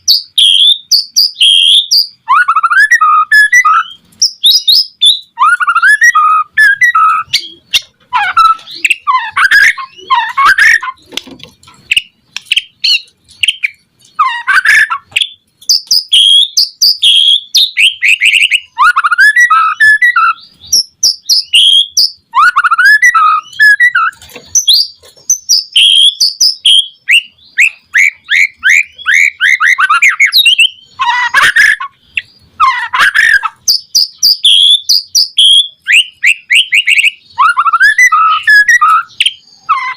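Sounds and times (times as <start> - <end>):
songbird singing whistled phrases: 0.0 - 11.2, 11.9 - 39.9.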